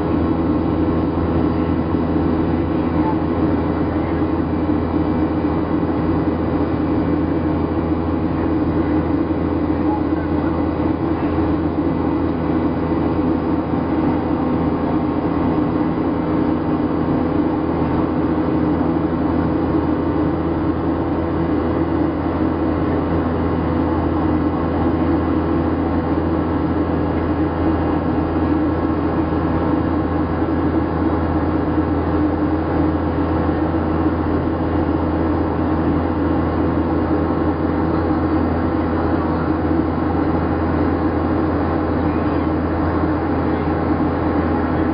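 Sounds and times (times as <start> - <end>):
airplane cabin drone: 0.0 - 44.9
constant humming tones: 0.0 - 44.9.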